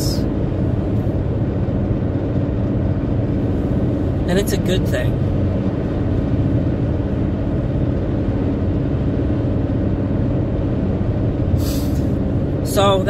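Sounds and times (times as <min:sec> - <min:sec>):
road noise inside car cabin: 0:00.0 - 0:13.0.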